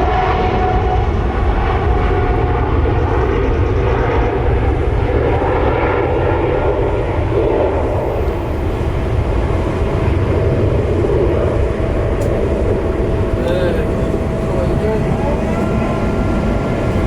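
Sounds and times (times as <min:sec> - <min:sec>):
faint steady whine: 0:00.0 - 0:17.0
jet engines roaring: 0:00.0 - 0:17.0.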